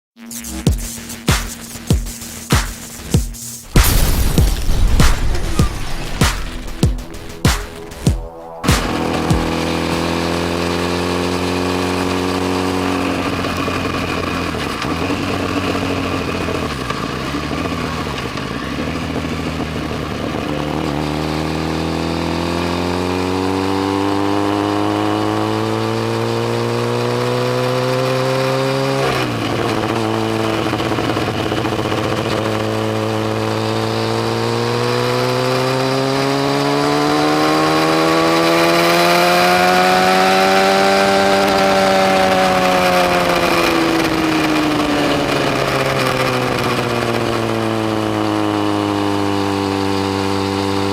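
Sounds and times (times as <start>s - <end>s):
motorcycle engine accelerating: 3.6s - 50.9s.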